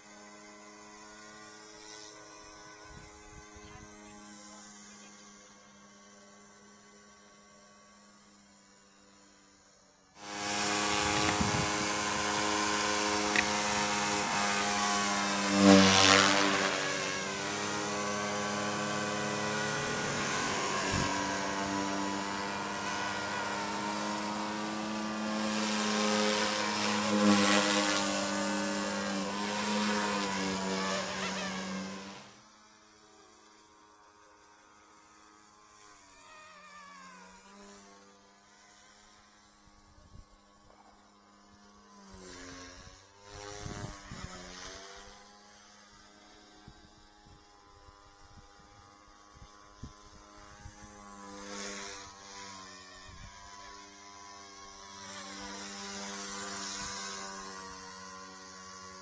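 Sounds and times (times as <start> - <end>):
rc helicopter rotor whine: 0.0 - 59.0.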